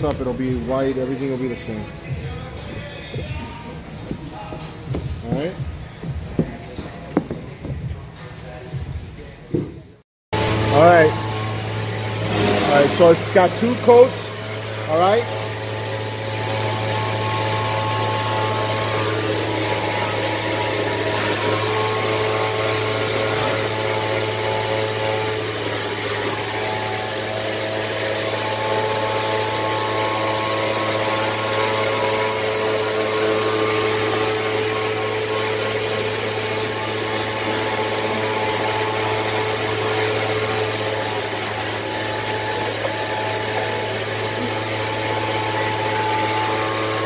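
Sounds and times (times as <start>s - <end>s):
motor humming: 0.0s - 9.8s, 10.4s - 47.0s.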